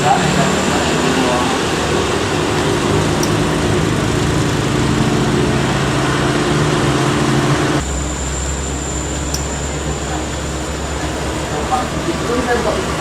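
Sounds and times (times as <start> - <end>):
low hum with high whine: 0.0 - 13.0
road noise: 0.0 - 13.0
truck engine running: 0.0 - 13.0.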